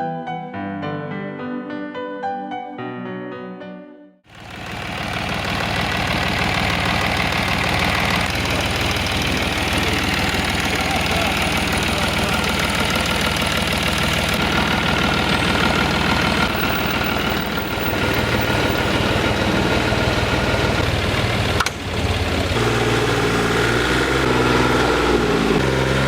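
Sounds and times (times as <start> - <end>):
diesel engine clattering: 4.3 - 26.0.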